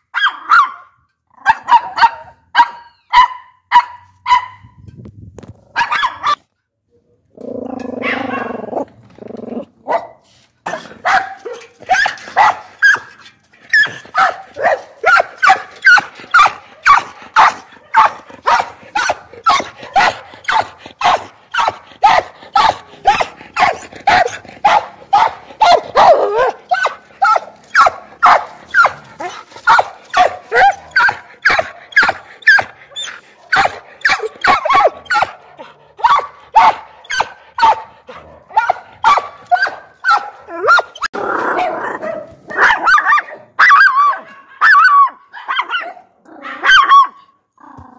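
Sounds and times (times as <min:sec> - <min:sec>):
dog barking: 0:00.1 - 0:04.8, 0:05.8 - 0:06.5, 0:08.0 - 0:08.5, 0:09.8 - 0:13.1, 0:13.7 - 0:47.3.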